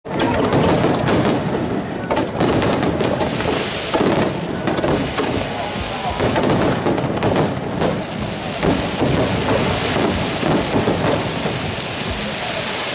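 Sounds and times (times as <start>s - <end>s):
fireworks bangs: 0.0s - 12.9s
fireworks crackling: 0.0s - 12.9s.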